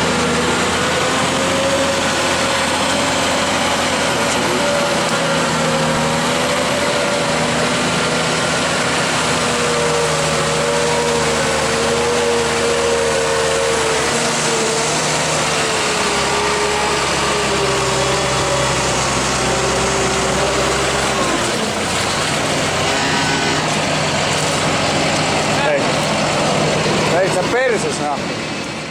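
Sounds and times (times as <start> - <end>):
diesel engine running hard: 0.0 - 28.9.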